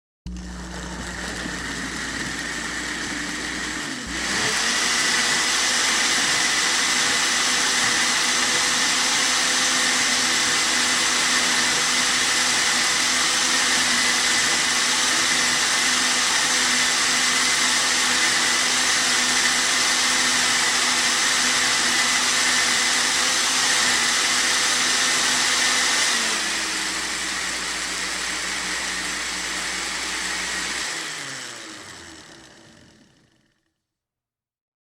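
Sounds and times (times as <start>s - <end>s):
kitchen blender motor whine: 0.3s - 33.8s.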